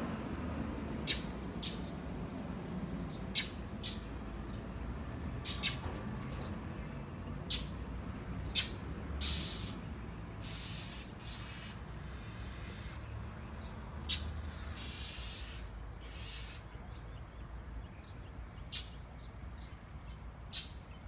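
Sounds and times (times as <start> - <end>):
birds chirping: 1.0 - 21.0.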